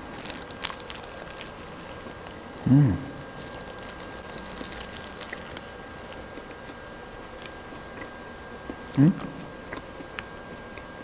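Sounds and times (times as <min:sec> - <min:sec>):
faint chewing crunches: 0:00.0 - 0:02.6, 0:03.2 - 0:11.0.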